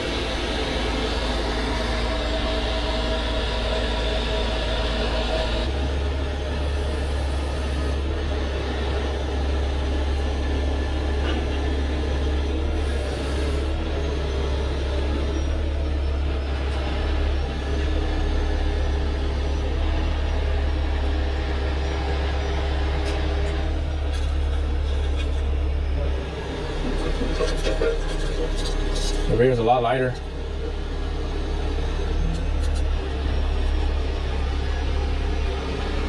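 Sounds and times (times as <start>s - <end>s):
truck diesel engine rumbling: 0.0s - 36.0s.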